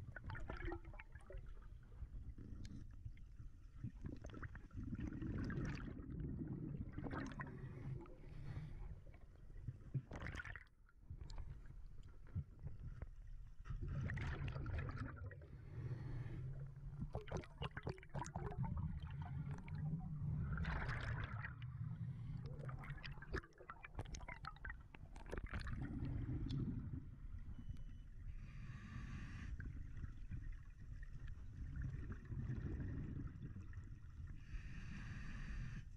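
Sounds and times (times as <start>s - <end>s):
regulator bubbles gurgling: 0.0s - 3.1s, 3.7s - 9.1s, 13.7s - 34.8s
low rumble of moving water: 0.0s - 35.9s.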